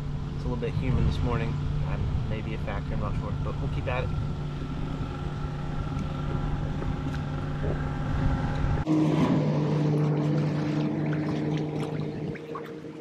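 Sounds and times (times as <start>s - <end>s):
low rumble: 0.0s - 12.6s
motor hum: 0.0s - 13.0s.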